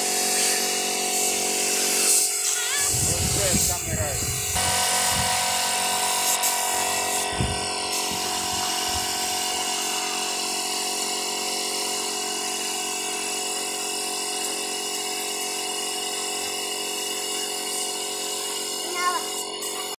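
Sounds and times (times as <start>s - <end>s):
spray gun motor whine: 0.0s - 19.9s
hissing air: 0.1s - 16.1s.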